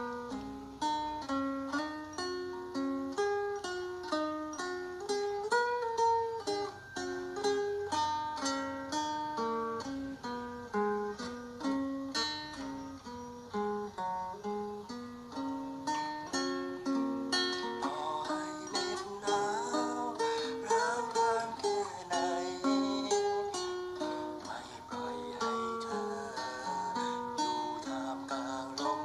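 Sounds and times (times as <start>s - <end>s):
plucked string instrument melody: 0.0s - 29.0s.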